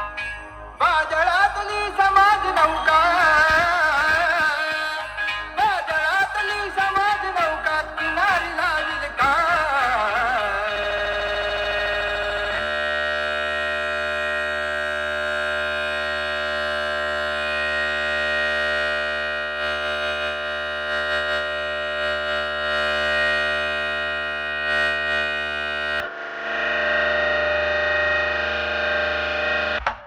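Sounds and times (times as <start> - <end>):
distorted guitar-like sound: 0.0 - 30.0
held chord through speakers: 0.0 - 30.0.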